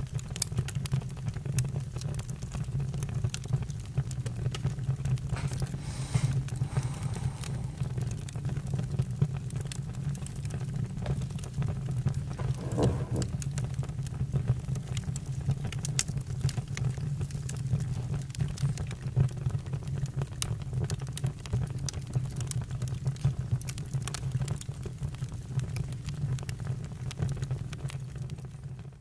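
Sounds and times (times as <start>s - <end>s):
campfire crackling: 0.0s - 28.5s.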